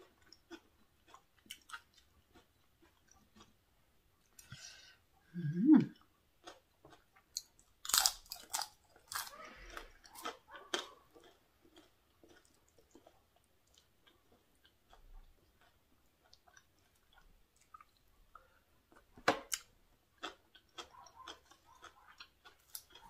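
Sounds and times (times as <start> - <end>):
person chewing: 0.0 - 3.6, 5.8 - 23.0
person crunching crisp food: 0.0 - 3.6, 6.4 - 18.0, 19.5 - 23.0.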